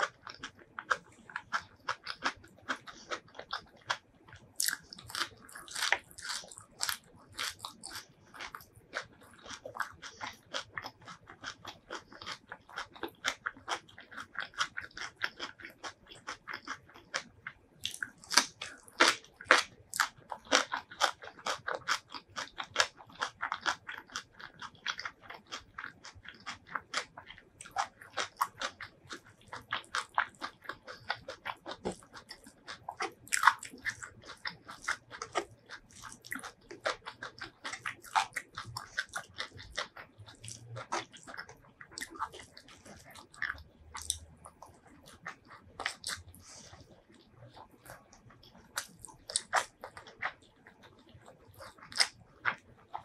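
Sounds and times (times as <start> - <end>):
chewing with mouth clicks: 0.0 - 53.0.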